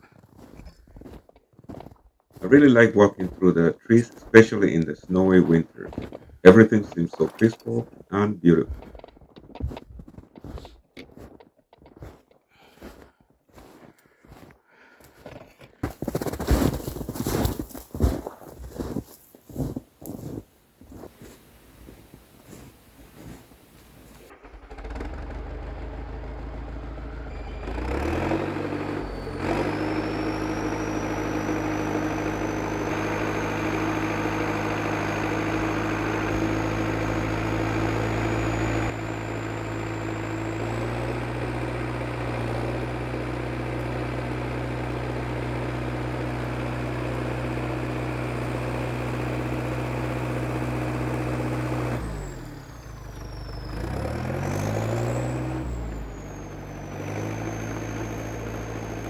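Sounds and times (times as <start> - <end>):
bulldozer diesel engine revving: 0.3 - 9.0, 15.8 - 20.4, 21.0 - 59.0.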